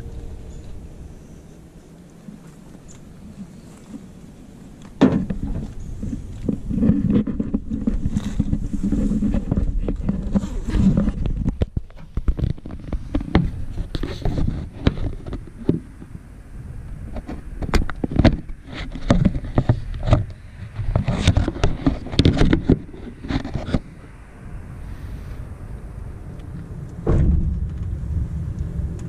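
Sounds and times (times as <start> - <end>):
steady low rumble: 0.0 - 21.0, 21.6 - 29.0.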